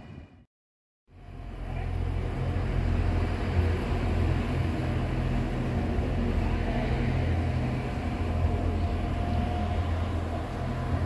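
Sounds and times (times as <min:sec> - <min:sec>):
train rumble and hum: 0:01.1 - 0:11.0.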